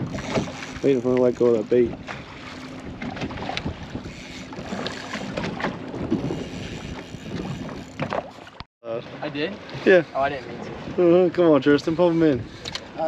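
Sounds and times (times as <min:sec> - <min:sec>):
wind buffeting microphone: 0:00.0 - 0:08.2, 0:09.8 - 0:13.0
water slapping boat hull: 0:00.0 - 0:13.0.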